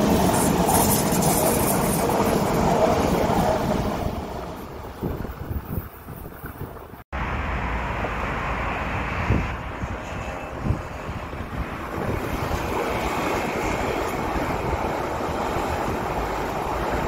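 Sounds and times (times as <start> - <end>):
wind buffeting microphone: 0.0 - 7.0, 8.9 - 17.0
approaching train rumble: 0.0 - 17.0.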